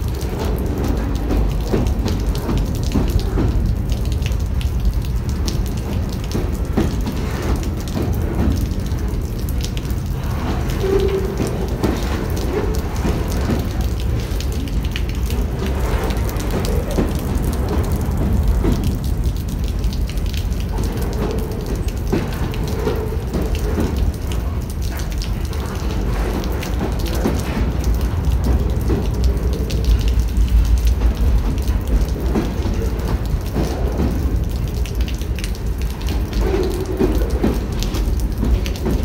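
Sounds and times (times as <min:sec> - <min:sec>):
freight cars rolling past: 0:00.0 - 0:39.0
wheels clicking and clattering: 0:00.0 - 0:39.0.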